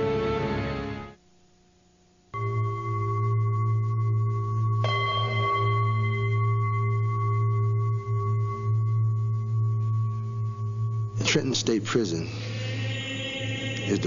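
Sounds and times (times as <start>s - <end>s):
low steady drone with sustained tones: 2.4s - 14.0s.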